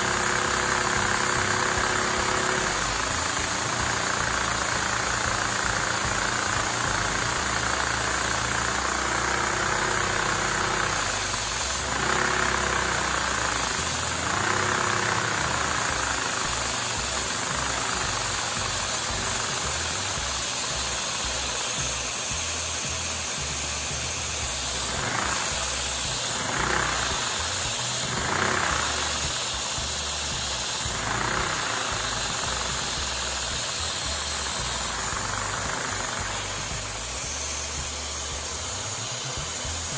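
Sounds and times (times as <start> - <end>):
suction motor hiss: 0.0 - 39.9
toy engine mechanical running: 0.0 - 39.9.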